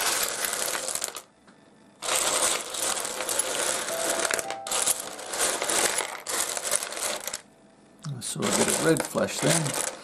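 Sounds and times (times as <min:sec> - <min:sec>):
stones clicking and clattering: 0:00.0 - 0:01.3, 0:02.0 - 0:07.4, 0:08.4 - 0:10.0.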